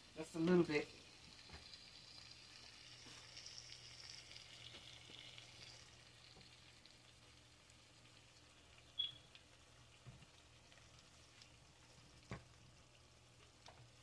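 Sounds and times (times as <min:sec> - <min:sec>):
faint sizzling in a pot: 0:00.0 - 0:14.0.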